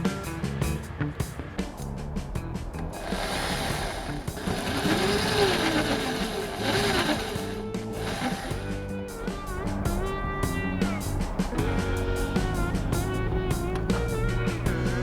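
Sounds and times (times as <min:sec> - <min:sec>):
background music: 0:00.0 - 0:15.0
workshop power tool: 0:02.8 - 0:15.0.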